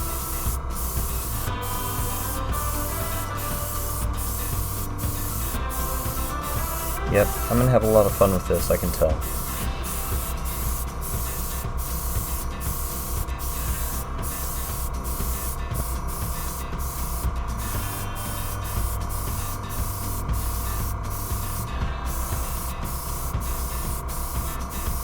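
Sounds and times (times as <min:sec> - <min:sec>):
air compressor hum: 0:00.0 - 0:25.0
airbrush spraying hiss: 0:00.0 - 0:25.0.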